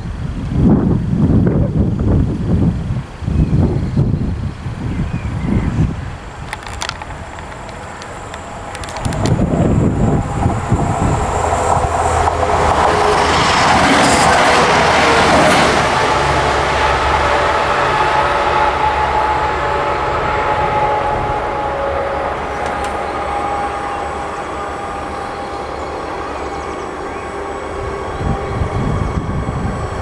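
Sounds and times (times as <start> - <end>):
railcar engine and rolling: 0.0 - 30.0.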